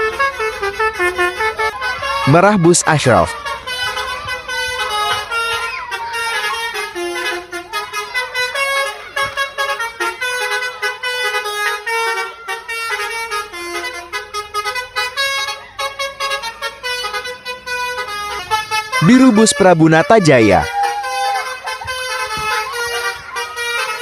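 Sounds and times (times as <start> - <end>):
multi-tone musical bus horn: 0.0 - 24.0.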